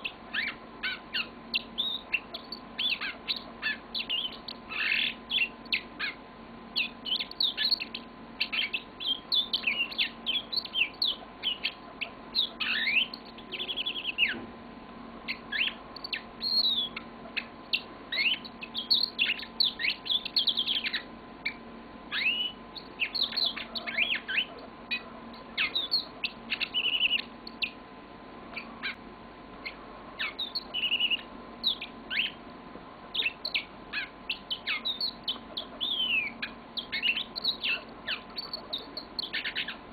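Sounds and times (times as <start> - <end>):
canary singing: 0.0 - 14.5, 15.2 - 39.9
faint steady hum: 0.0 - 39.9.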